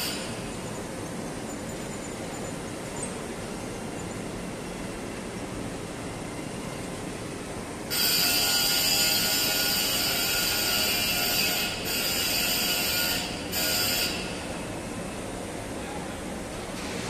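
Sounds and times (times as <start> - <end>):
loud high-pitched mechanical noise: 0.0 - 17.0.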